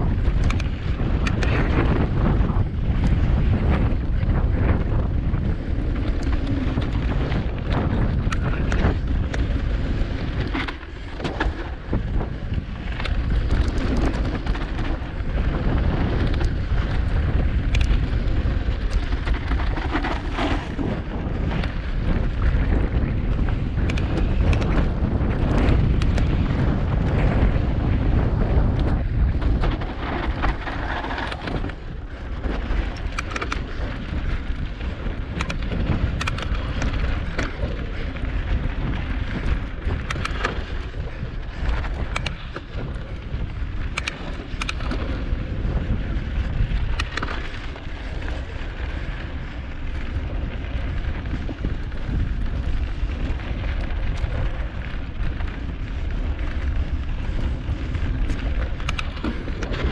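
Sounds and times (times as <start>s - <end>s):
tyre rumble: 0.0s - 59.9s
wheels rattling over rocks: 0.0s - 59.9s
wind buffeting microphone: 0.0s - 59.9s.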